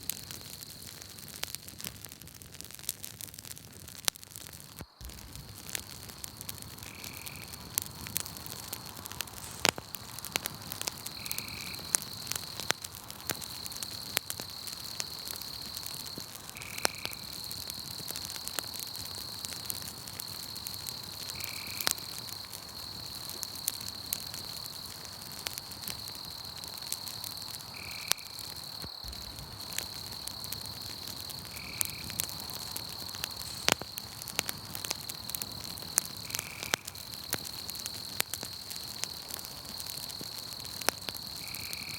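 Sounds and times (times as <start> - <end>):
campfire crackling and popping: 0.0 - 41.9
high-pitched insect trill: 4.9 - 10.1, 10.9 - 24.8, 25.6 - 41.9.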